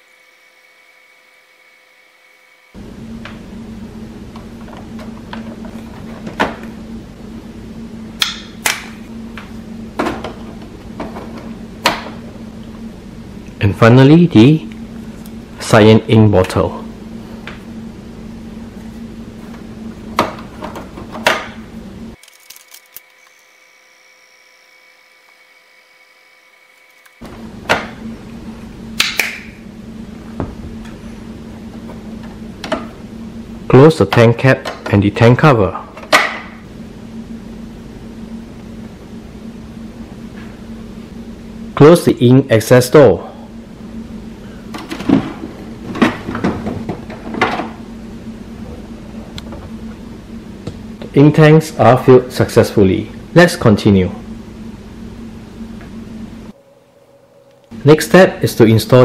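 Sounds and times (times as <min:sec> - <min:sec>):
steady low hum: 0:02.7 - 0:23.0, 0:27.2 - 0:59.0.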